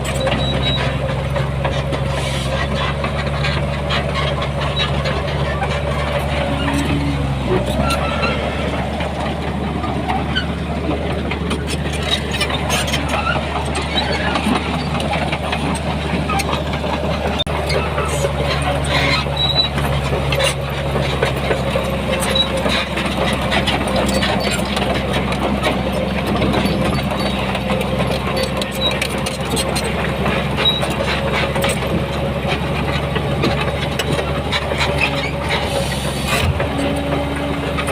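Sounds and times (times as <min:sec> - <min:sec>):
heavy diesel machinery running: 0:00.0 - 0:37.9
metal clanks and rattles: 0:00.0 - 0:37.9.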